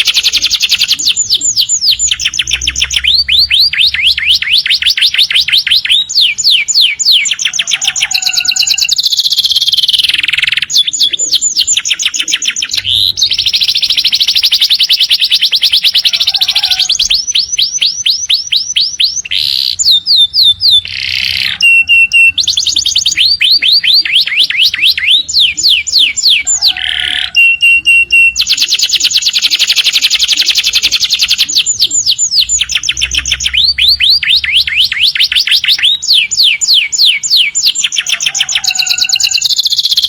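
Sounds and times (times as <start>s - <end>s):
canary singing: 0.0s - 40.0s.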